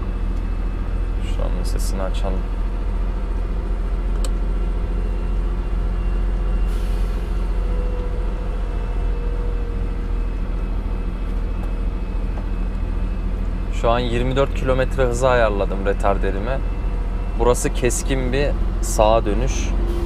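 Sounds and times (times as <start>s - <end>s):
truck engine low drone: 0.0s - 20.0s.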